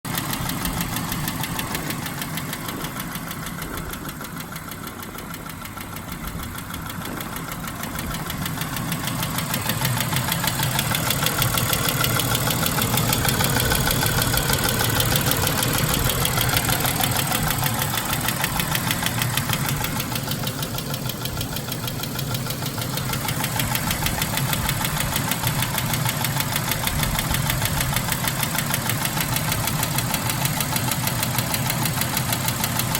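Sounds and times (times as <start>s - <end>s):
engine ticking knock: 0.0s - 32.9s.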